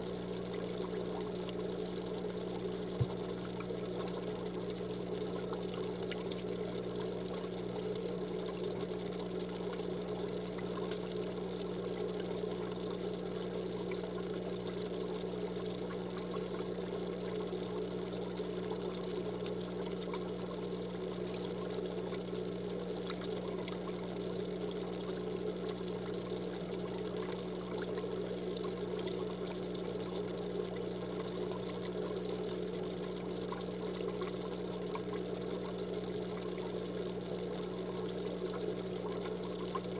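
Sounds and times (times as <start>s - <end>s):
low constant hum: 0.0s - 39.9s
water trickling: 0.0s - 39.9s.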